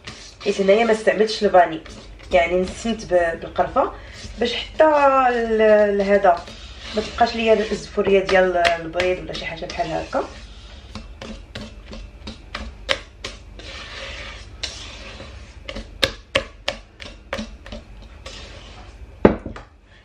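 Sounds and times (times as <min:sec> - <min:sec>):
whisk clicking on metal bowl: 0:00.0 - 0:18.8
whisk swishing through batter: 0:00.0 - 0:19.2.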